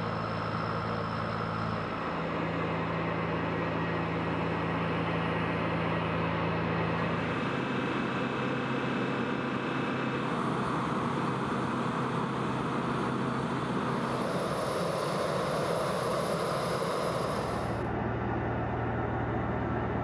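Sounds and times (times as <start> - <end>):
thin high-pitched whine: 0.0 - 17.9
jet engines running: 0.0 - 18.8.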